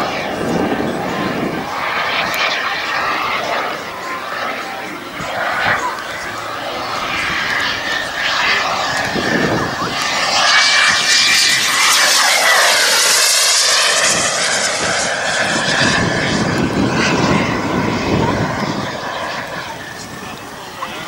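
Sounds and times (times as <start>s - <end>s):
model jet engine whine: 0.0s - 21.0s.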